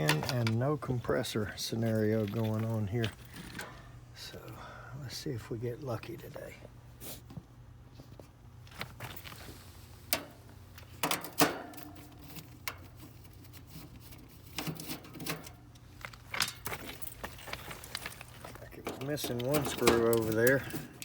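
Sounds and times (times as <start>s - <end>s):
steady low unit hum: 0.0s - 21.0s.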